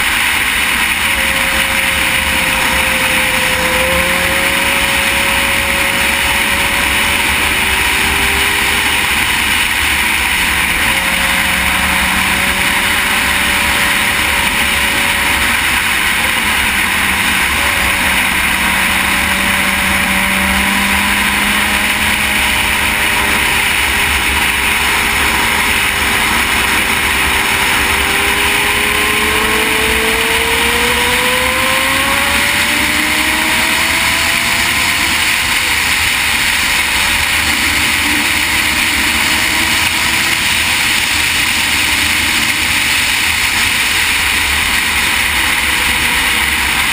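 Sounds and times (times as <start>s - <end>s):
motorcycle engine hum: 0.0s - 46.9s
wind and road noise: 0.0s - 46.9s.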